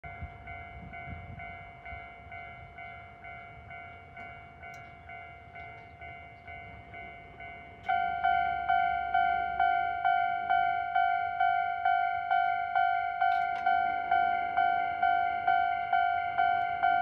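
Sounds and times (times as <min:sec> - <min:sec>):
level crossing bell ringing: 0:00.1 - 0:17.0.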